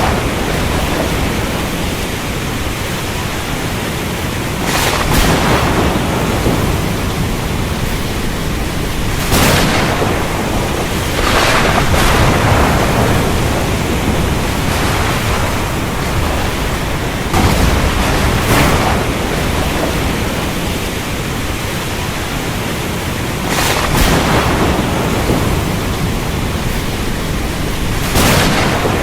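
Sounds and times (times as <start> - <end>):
thunder cracks: 0.0 - 2.7, 4.6 - 21.5, 23.4 - 29.0
heavy rain: 0.0 - 29.0.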